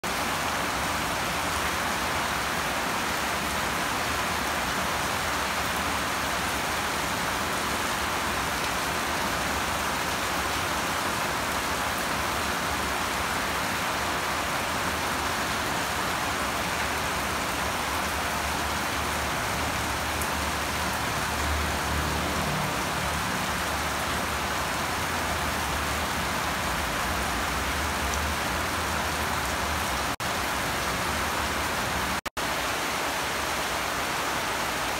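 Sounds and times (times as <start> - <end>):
heavy rain on roofs: 0.0 - 34.9.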